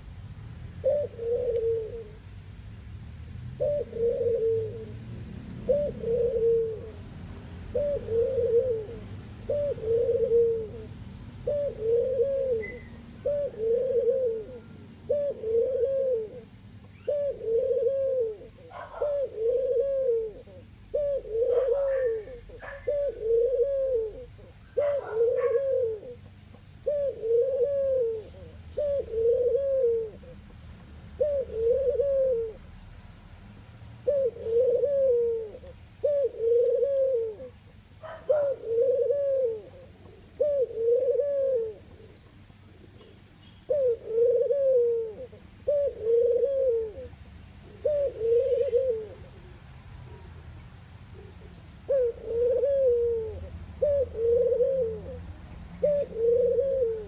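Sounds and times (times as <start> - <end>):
dove cooing: 0.8 - 2.3, 3.6 - 32.9, 34.0 - 50.4, 51.1 - 57.0.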